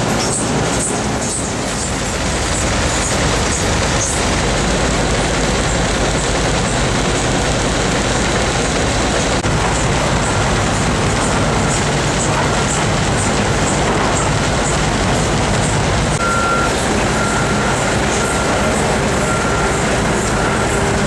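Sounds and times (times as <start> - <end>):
conveyor machinery din: 0.0 - 21.0.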